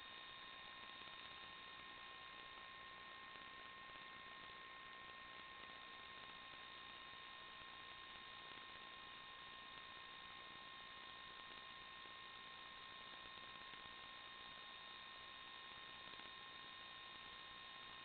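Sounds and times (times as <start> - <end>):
faint electronic hiss: 0.0 - 18.0.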